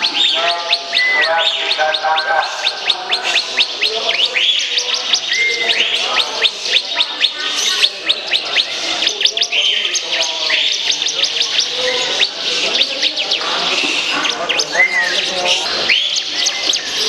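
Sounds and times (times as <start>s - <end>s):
rising whistled bird notes: 0.0s - 17.0s
songbirds chirping rapidly: 0.0s - 17.0s.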